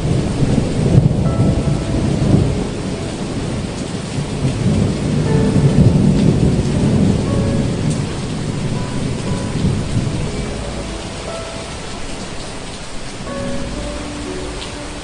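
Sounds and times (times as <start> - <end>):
rolling thunder rumble: 0.0 - 15.0
steady rain: 0.0 - 15.0.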